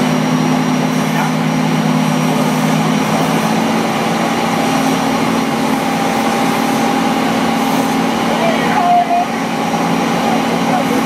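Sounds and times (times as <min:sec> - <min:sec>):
tug engine running under load: 0:00.0 - 0:11.0.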